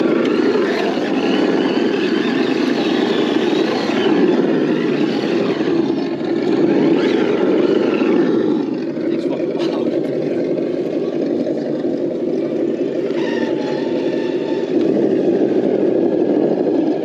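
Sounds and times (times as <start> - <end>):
rc truck motor whine: 0.0 - 17.0.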